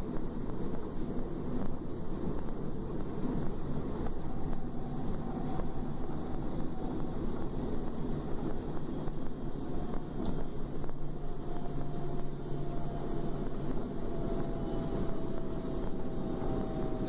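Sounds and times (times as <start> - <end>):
faint train whine: 0.0 - 17.0
train wheels rumbling on rails: 0.0 - 17.0.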